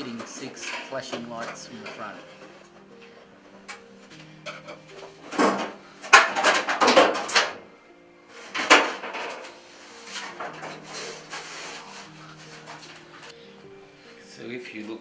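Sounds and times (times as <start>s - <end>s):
hard parts scraping and rattling: 0.0s - 13.7s
background music: 0.0s - 15.0s.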